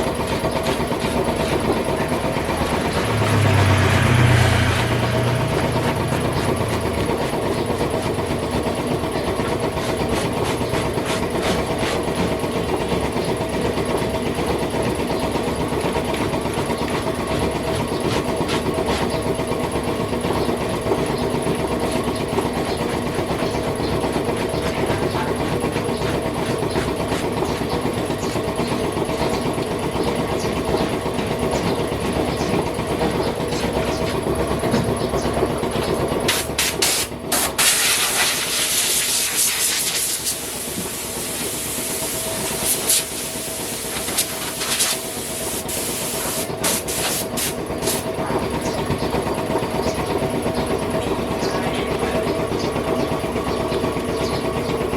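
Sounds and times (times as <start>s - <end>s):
machine motor running: 0.0s - 54.9s.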